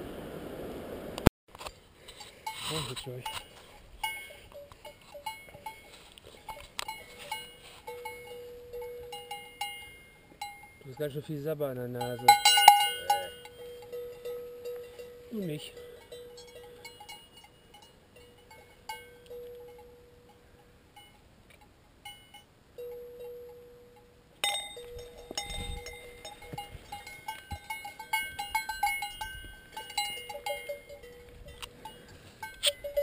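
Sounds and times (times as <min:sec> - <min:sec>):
cowbells clanking: 0:02.0 - 0:33.0.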